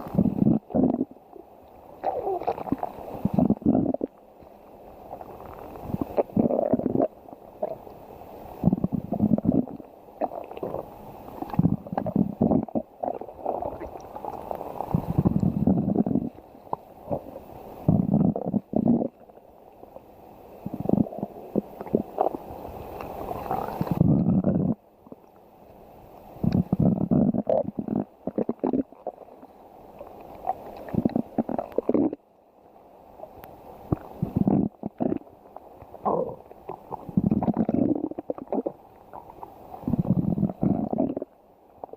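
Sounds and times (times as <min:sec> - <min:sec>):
stomach growling: 0:00.0 - 0:01.2, 0:02.0 - 0:04.2, 0:05.1 - 0:08.0, 0:08.6 - 0:19.5, 0:20.6 - 0:25.4, 0:26.4 - 0:32.2, 0:33.9 - 0:41.9.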